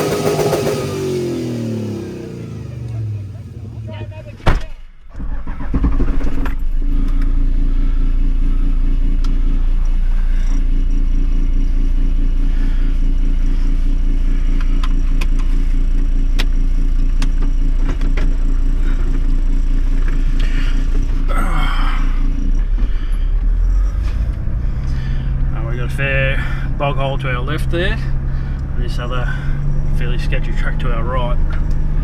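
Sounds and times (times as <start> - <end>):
engine running at low revs: 0.0 - 4.4, 5.0 - 32.0.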